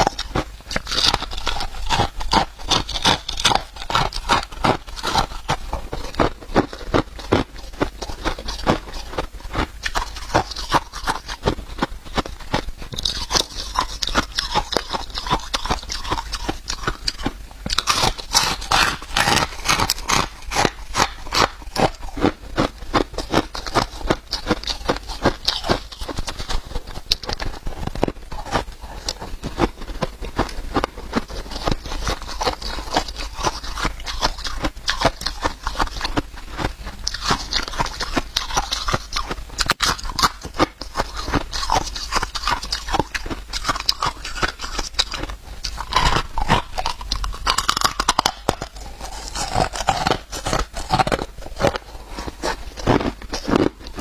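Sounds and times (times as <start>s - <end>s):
chewing crushed ice: 0.0s - 54.0s.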